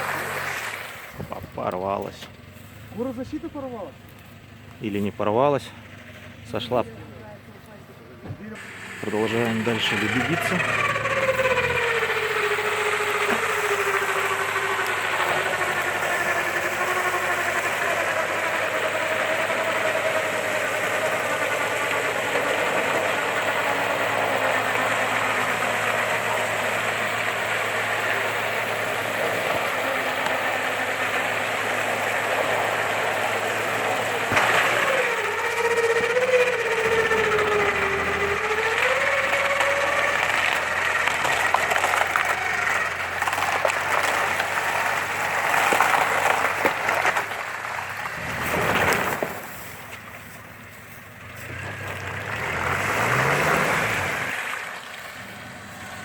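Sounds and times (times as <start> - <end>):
engine running: 0.0 - 56.0
winch motor whining: 2.9 - 56.0.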